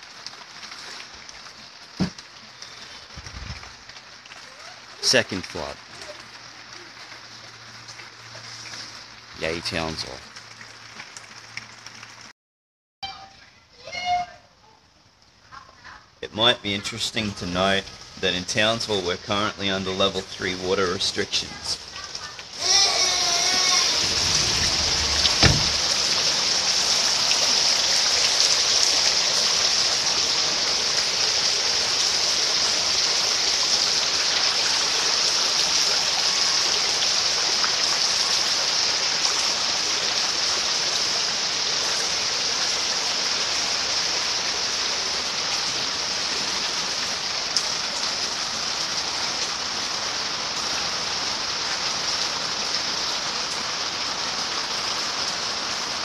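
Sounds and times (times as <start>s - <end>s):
heavy rain pouring: 0.0s - 12.3s, 15.6s - 56.0s.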